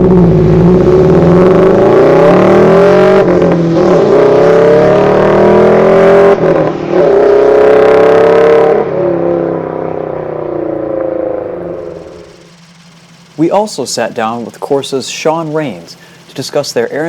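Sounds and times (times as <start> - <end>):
car engine accelerating through gears: 0.0 - 17.0.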